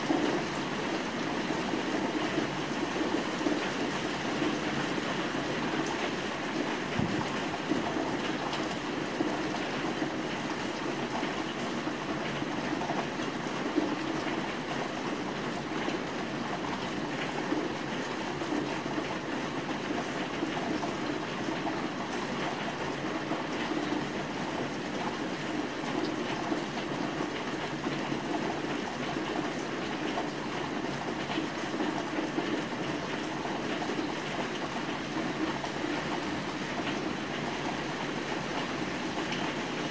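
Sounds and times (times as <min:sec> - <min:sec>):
rain on rooftops: 0:00.0 - 0:39.9.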